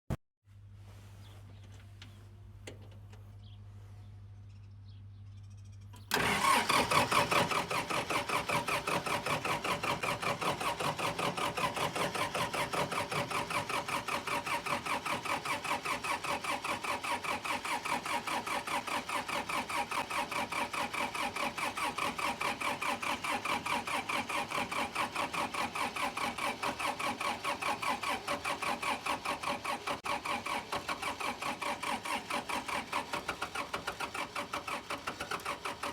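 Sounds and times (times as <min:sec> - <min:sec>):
diesel tractor engine starting: 0:06.0 - 0:35.9.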